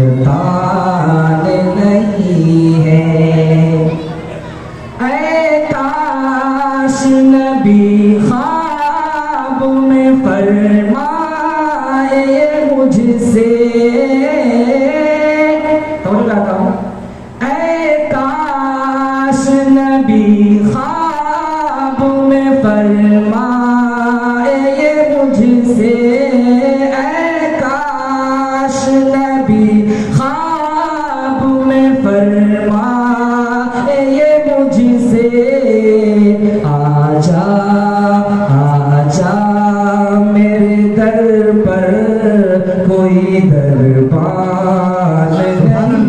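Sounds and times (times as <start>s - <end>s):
man singing unaccompanied: 0.0s - 46.0s.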